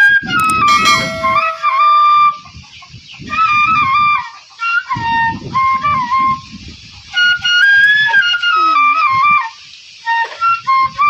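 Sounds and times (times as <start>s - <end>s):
bamboo flute melody: 0.0s - 2.4s, 3.2s - 11.0s.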